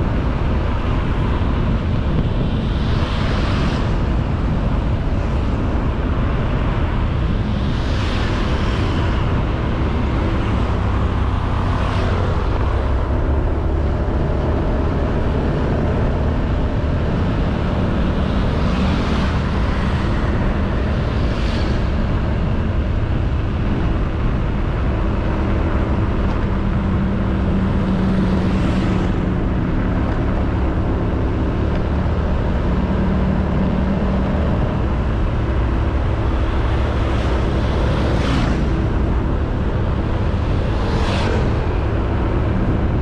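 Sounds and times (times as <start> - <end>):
vehicles swishing past: 0.0 - 43.0
wind and road rush: 0.0 - 43.0.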